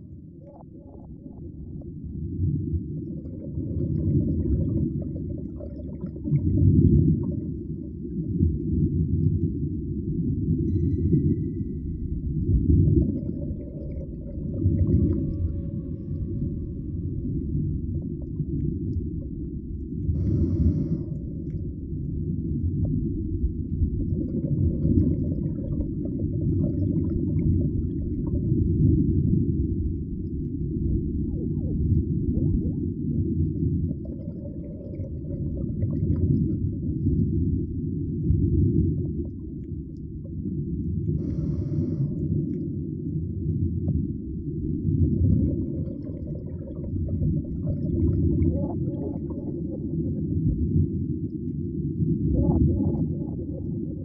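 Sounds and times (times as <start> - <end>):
muffled underwater rumble: 0.0 - 54.0.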